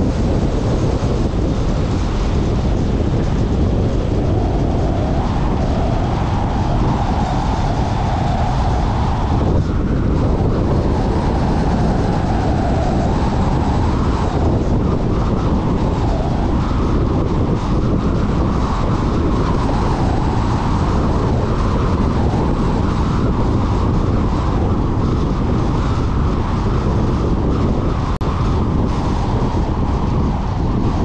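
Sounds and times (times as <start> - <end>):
wind rush: 0.0 - 31.0.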